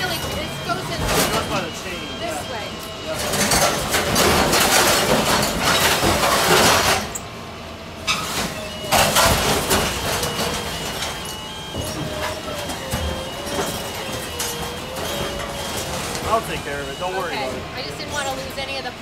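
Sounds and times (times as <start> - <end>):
machine whine: 0.0 - 19.0.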